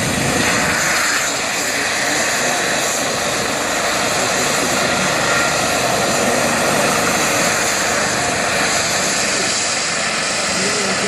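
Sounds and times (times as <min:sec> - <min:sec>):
helicopter engines and rotor: 0:00.0 - 0:11.0.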